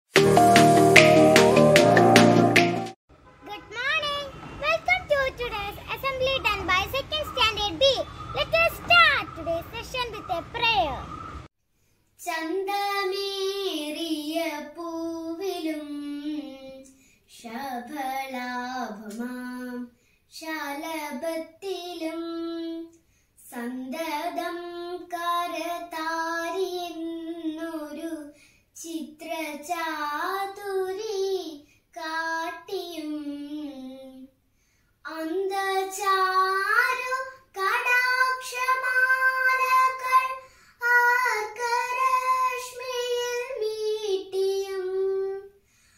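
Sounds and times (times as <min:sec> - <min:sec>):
girl singing unaccompanied: 0:03.4 - 0:11.2, 0:12.2 - 0:34.4, 0:35.0 - 0:45.6.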